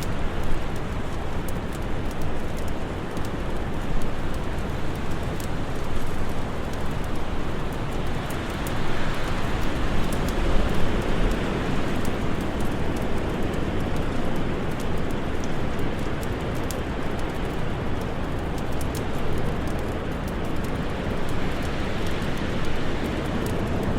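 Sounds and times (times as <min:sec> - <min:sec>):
fire crackling: 0:00.0 - 0:23.9.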